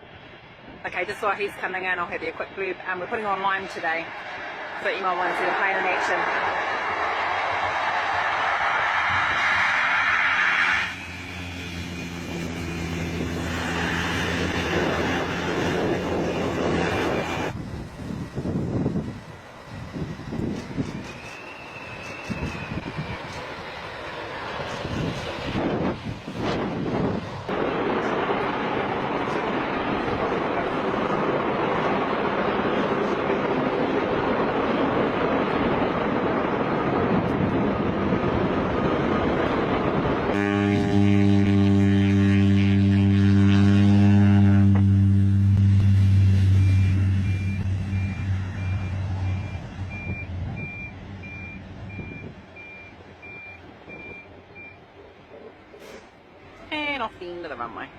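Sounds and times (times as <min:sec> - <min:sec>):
gusty wind on microphone: 0:00.0 - 0:55.2
aircraft rushing roar: 0:00.0 - 0:57.9
plane engine droning: 0:00.0 - 0:57.9.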